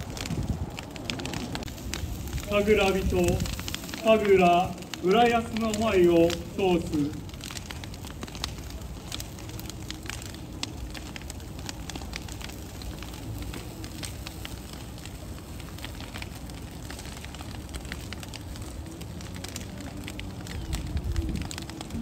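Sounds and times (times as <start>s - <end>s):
bonfire flames rushing: 0.0s - 22.0s
fire crackling and popping: 0.0s - 22.0s.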